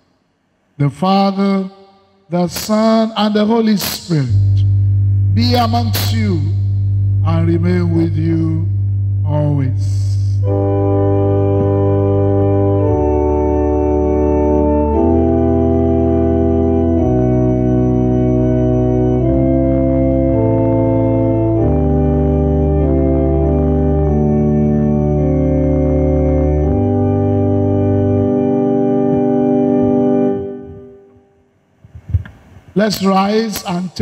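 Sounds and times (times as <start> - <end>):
organ playing sustained chords: 0.7 - 31.8.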